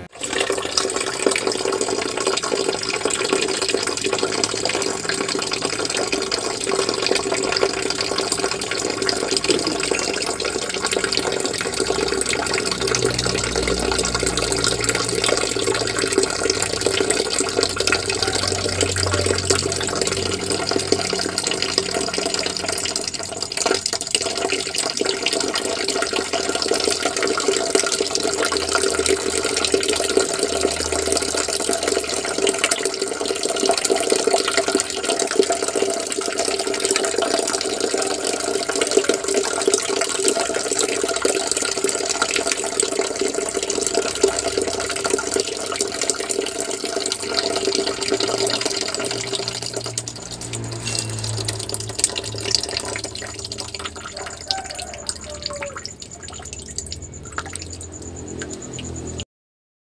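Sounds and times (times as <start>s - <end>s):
water running from a tap: 0.0s - 59.2s.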